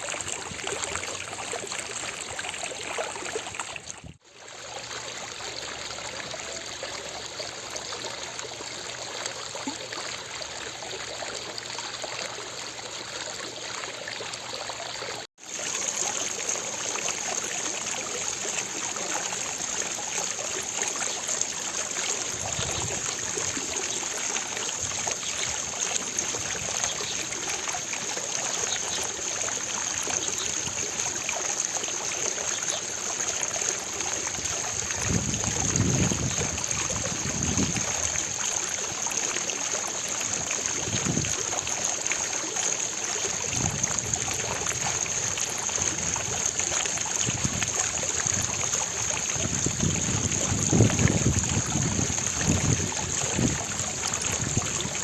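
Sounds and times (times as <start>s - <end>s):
fountain water splashing: 0.0s - 55.0s.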